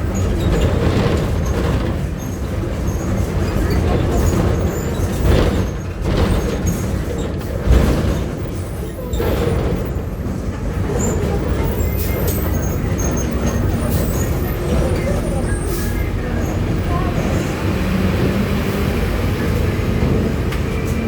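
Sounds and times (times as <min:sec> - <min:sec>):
bus body knocks and rattles: 0:00.0 - 0:21.0
bus engine rumbling: 0:00.0 - 0:21.0.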